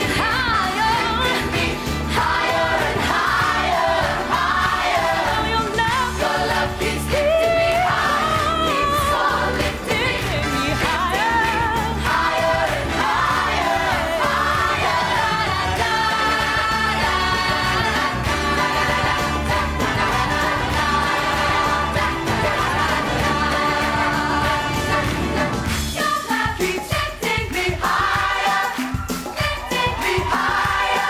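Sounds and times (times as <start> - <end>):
gospel choir singing: 0.0 - 31.0
musical accompaniment: 0.0 - 31.0.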